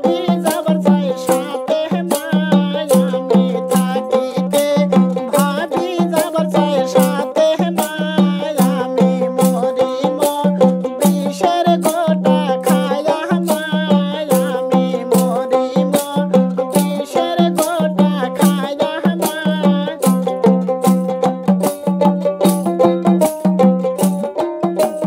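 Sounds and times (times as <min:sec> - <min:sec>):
fast percussion beat: 0:00.0 - 0:25.0.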